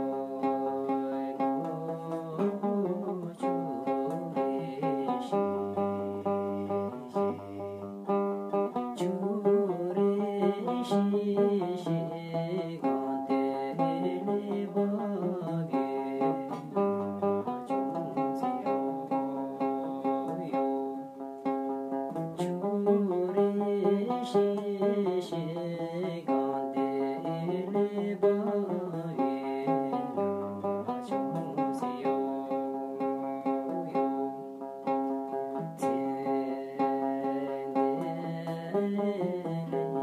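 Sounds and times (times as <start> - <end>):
plucked lute melody: 0.0 - 40.0.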